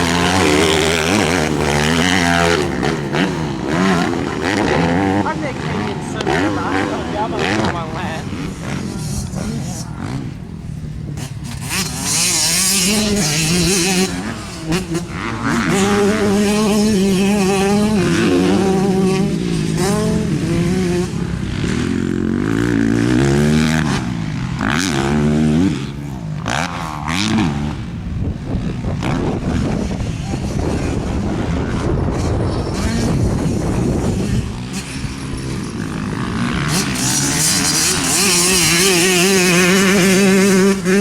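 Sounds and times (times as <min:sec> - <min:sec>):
motorbike engine revving: 0:00.0 - 0:41.0.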